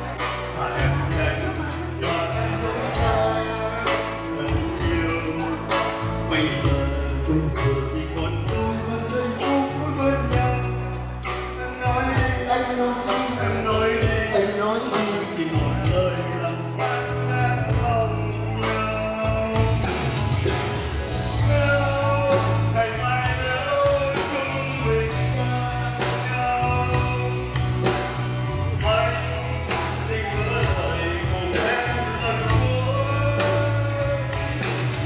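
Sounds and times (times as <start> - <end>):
keyboard dance music: 0.0 - 35.0
man singing into microphone: 0.0 - 35.0.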